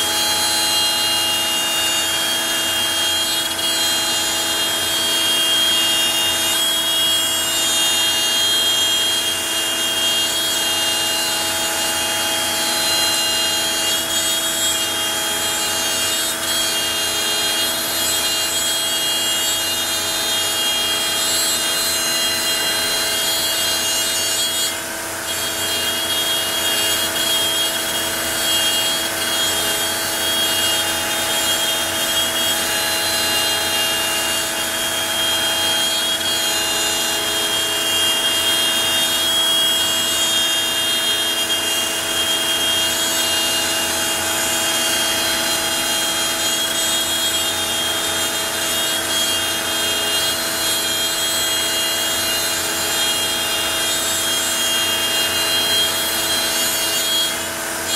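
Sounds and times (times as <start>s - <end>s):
router bit cutting: 0.0s - 57.9s
router spindle whine: 0.0s - 57.9s.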